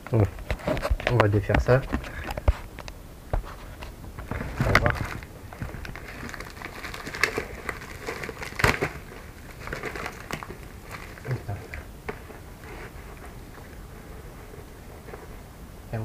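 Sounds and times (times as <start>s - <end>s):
bubble wrap crinkling: 0.4s - 16.0s.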